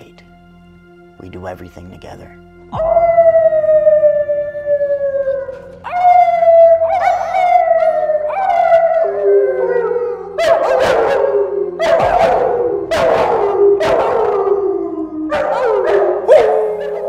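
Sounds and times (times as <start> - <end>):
dog howling: 2.8 - 17.0
person howling: 2.8 - 17.0.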